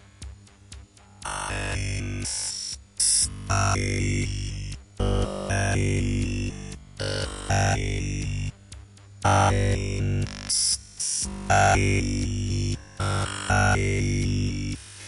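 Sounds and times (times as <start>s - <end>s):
glitchy synthesized tones: 1.2s - 8.5s, 9.3s - 14.8s.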